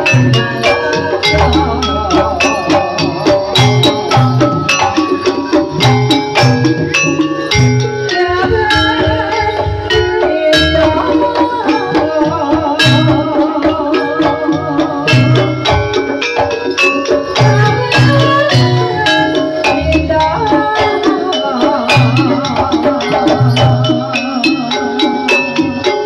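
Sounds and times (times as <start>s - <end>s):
gong-chime and metallophone notes: 0.0s - 26.0s
hand drums rhythm: 0.0s - 26.0s
wavering melody line: 0.0s - 26.0s.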